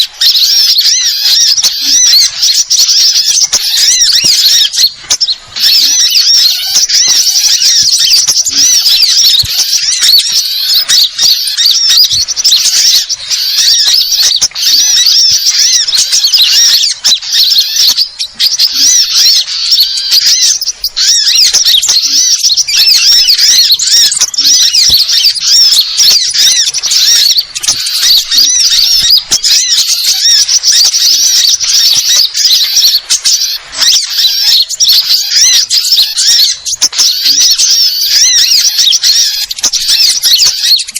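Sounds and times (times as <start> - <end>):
many small birds chirping: 0.0 - 40.9.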